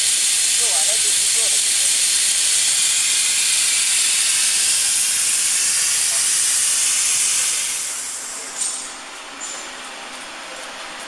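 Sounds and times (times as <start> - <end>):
plasma torch hissing: 0.0 - 8.9.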